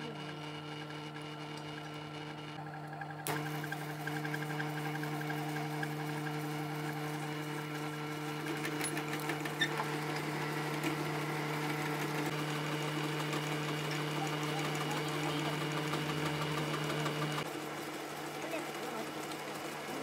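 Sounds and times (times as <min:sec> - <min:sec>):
metal lathe humming: 0:00.0 - 0:20.0.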